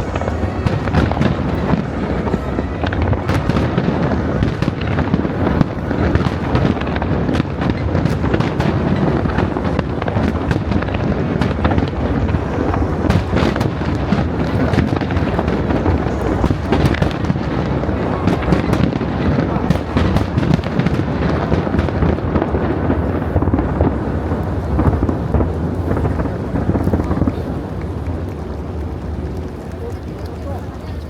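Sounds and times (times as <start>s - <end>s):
rumble of firework booms: 0.0s - 28.0s
fireworks cracks and bangs: 0.0s - 30.7s.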